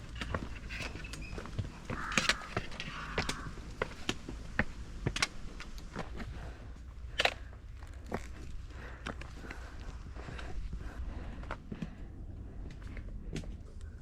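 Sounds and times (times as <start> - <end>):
footsteps on a trail: 0.0 - 14.0.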